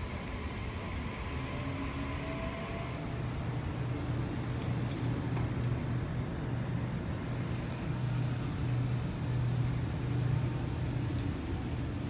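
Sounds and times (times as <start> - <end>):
electric train rolling past: 0.0 - 12.0.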